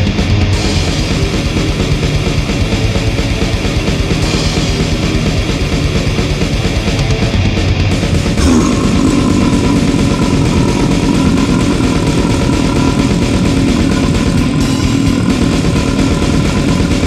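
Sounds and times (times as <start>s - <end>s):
distorted guitars: 0.0s - 17.0s
fast drums: 0.0s - 17.0s.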